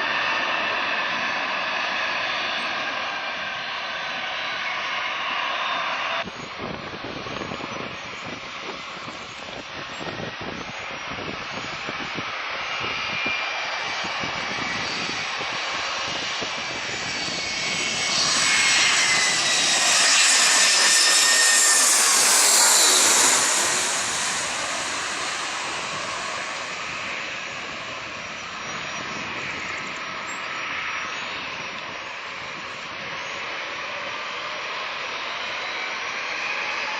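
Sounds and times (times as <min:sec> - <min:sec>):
jet engines passing: 0:00.0 - 0:36.9.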